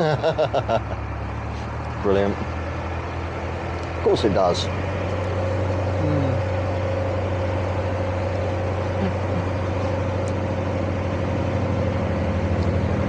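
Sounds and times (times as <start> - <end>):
boat engine droning: 0.0 - 13.0
thin steady whine: 0.0 - 13.0.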